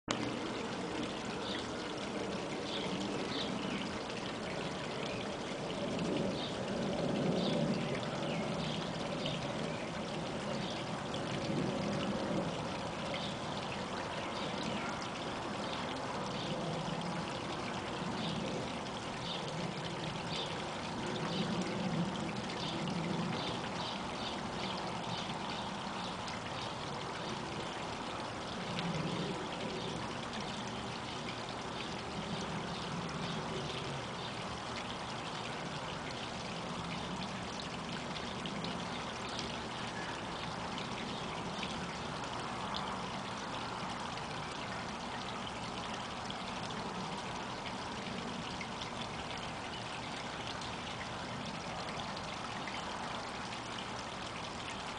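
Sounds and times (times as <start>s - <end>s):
water trickling over stones: 0.0s - 54.9s.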